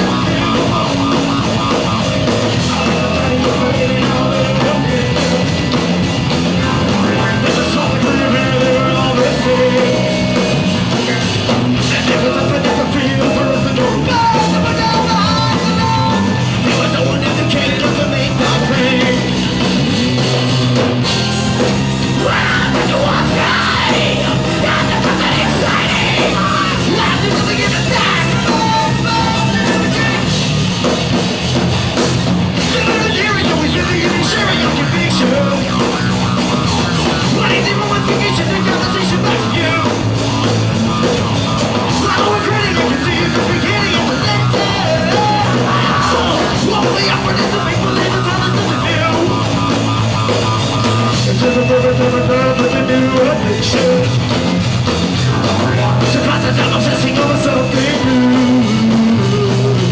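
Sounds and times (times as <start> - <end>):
person singing and yelling: 0.0 - 5.8, 6.4 - 20.4, 22.0 - 30.5, 32.6 - 40.4, 41.0 - 54.4, 55.6 - 59.9
live rock band playing: 0.0 - 59.9.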